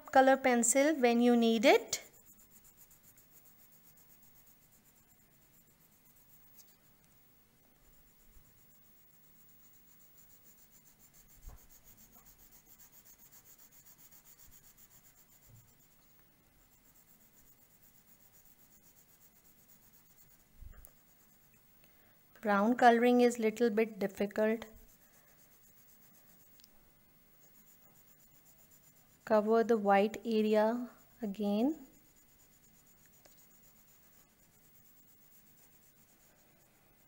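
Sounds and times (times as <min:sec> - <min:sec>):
colored pencil scratching on paper: 0:00.1 - 0:07.1, 0:07.7 - 0:21.7, 0:22.4 - 0:37.0.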